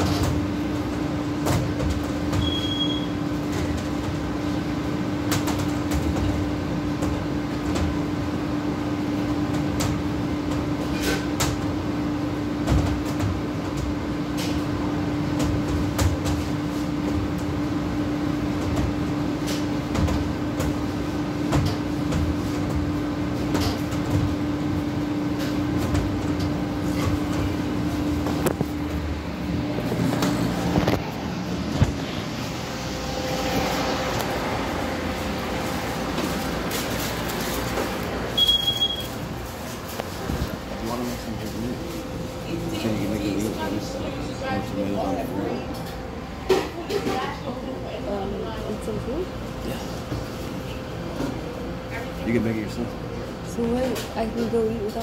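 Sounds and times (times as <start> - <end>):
kitchen equipment electrical hum: 0.0 - 55.0.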